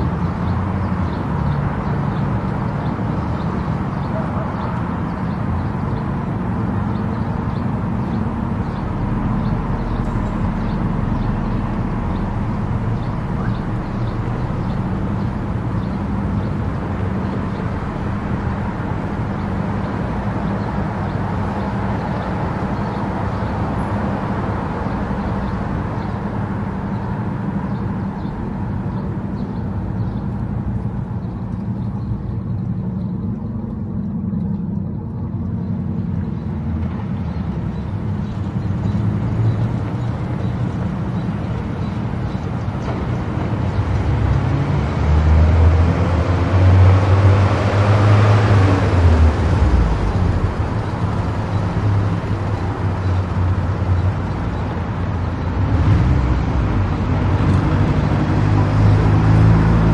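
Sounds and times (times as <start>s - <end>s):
low engine drone: 0.0s - 59.9s
tyre and road noise: 0.0s - 59.9s.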